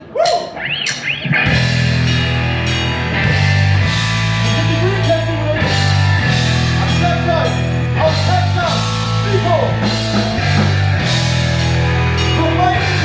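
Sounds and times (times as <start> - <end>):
live rock band playing: 0.4 - 13.0.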